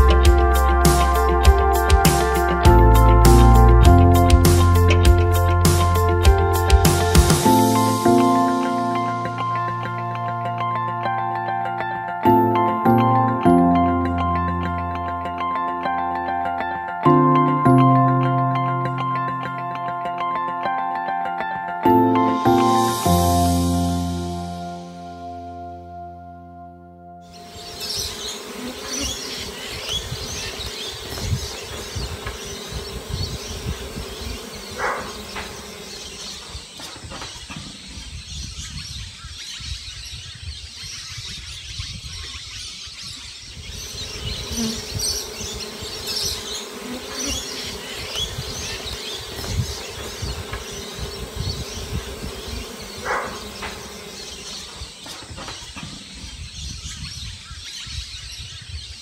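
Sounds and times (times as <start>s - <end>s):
honeybees buzzing: 0.0s - 20.9s, 21.5s - 25.9s, 27.2s - 38.4s, 43.6s - 56.6s
birds chirping: 0.0s - 59.0s.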